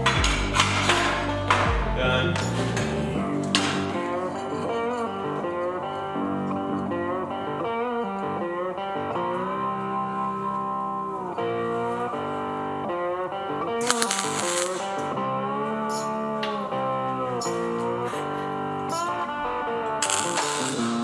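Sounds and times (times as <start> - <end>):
bluesy slide guitar music: 0.0 - 21.0.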